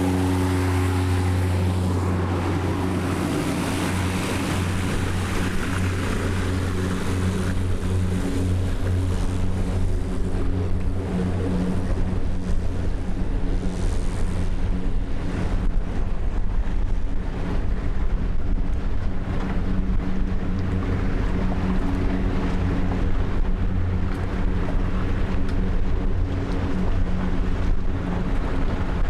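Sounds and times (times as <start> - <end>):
engine running steadily: 0.0 - 29.0
water noise: 0.0 - 29.0
wind buffeting microphone: 0.0 - 29.0.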